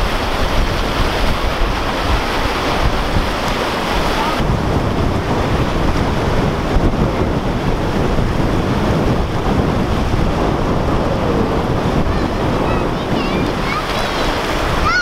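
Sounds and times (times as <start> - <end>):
whitewater rushing: 0.0 - 15.0
wind buffeting microphone: 0.0 - 15.0.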